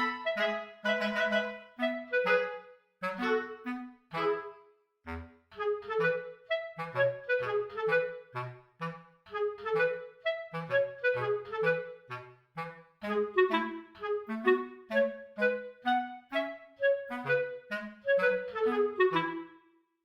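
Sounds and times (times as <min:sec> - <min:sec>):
bouncy woodwind notes: 0:00.0 - 0:19.7.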